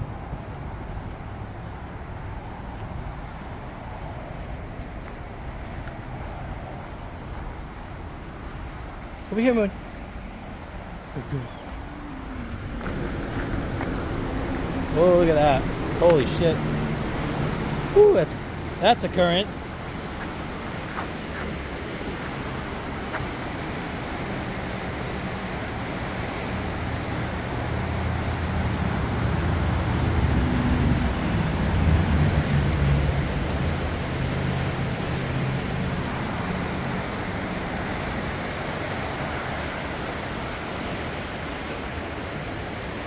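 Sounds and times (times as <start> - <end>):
low engine hum: 0.0 - 42.5
river current rushing: 0.0 - 43.0.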